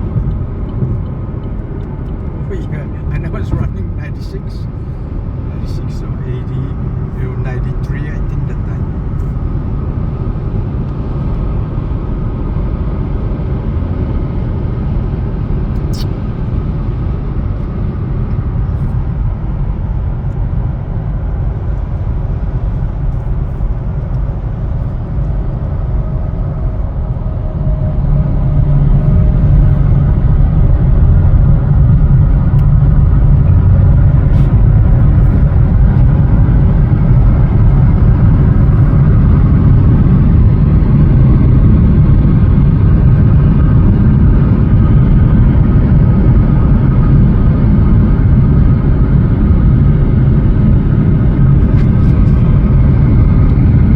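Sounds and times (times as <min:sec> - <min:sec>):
car driving at highway speed: 0:00.0 - 0:53.9.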